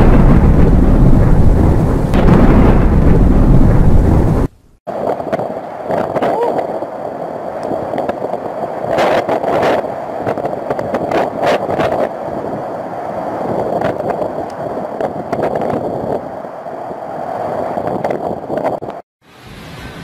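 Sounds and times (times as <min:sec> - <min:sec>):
heavy rain: 0:00.0 - 0:16.7
strong wind rushing: 0:00.0 - 0:19.0
wind buffeting microphone: 0:00.0 - 0:19.0.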